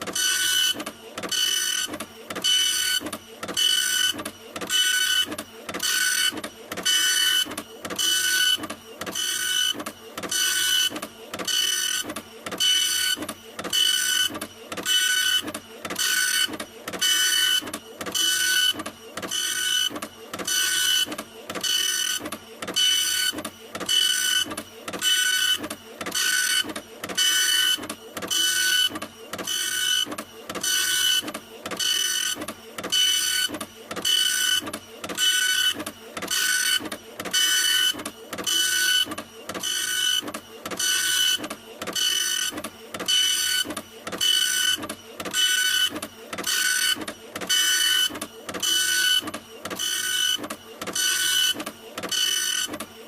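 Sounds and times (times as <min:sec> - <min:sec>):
printer running with whining motor: 0:00.0 - 0:53.0.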